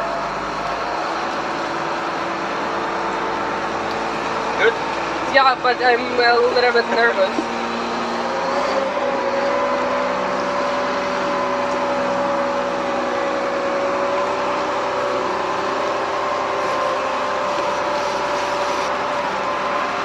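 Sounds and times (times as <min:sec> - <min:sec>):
diesel engine running with whine: 0:00.0 - 0:20.0.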